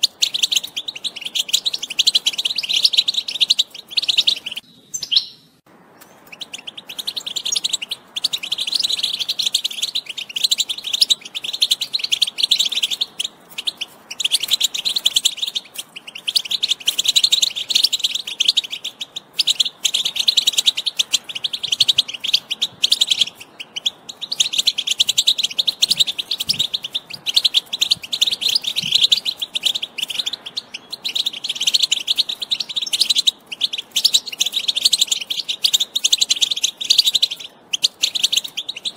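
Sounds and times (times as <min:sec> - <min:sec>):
finch singing twittering song: 0:00.0 - 0:38.9.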